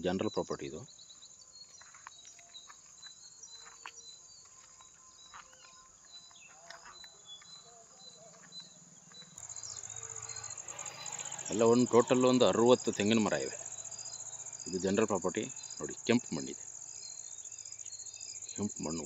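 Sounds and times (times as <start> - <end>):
crickets trilling: 0.0 - 19.0
faint ticks and chirps: 0.0 - 19.0.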